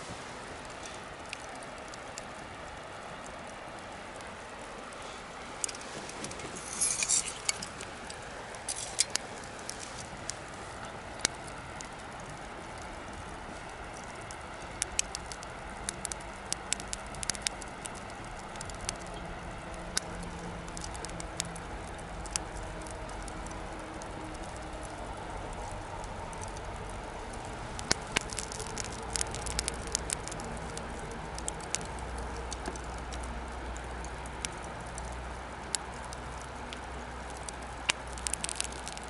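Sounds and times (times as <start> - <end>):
bonfire crackling: 0.0 - 39.0.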